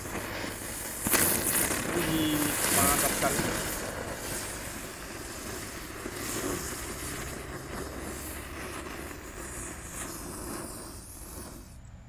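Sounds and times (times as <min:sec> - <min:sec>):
ground spinner fireworks hissing: 0:00.0 - 0:12.0.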